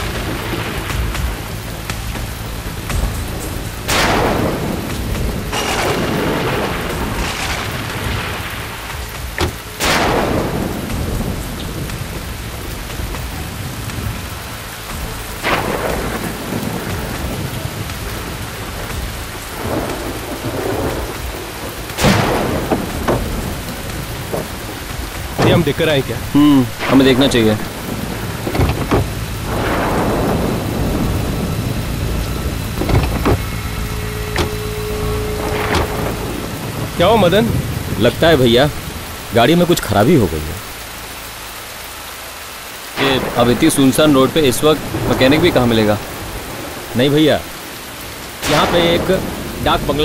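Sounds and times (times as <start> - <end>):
heavy rain pouring: 0.0 - 50.0
thunderclaps: 0.0 - 50.0.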